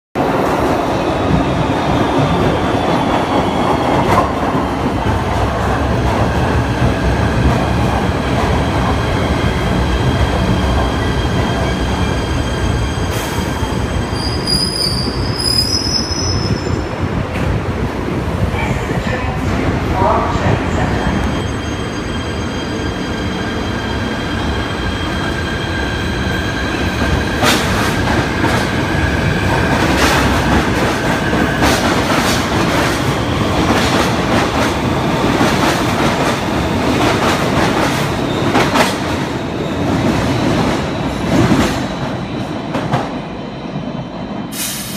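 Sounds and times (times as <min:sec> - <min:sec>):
subway train rumbling on rails: 0:00.2 - 0:44.9.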